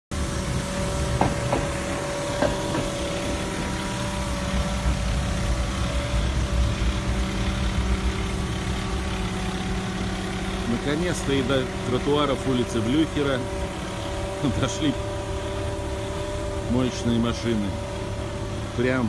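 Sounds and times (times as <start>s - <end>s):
truck engine rumbling: 0.1s - 19.0s.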